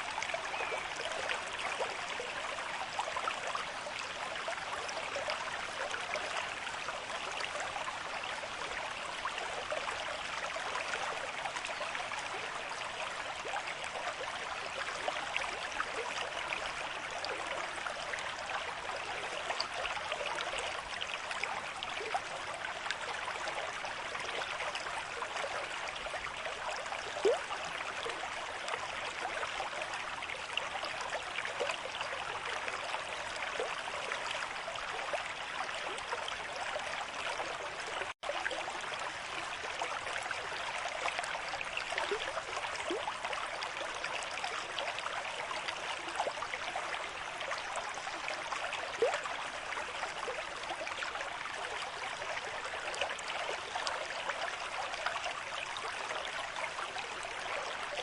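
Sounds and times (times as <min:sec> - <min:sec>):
stream flowing with gurgles: 0:00.0 - 0:58.0.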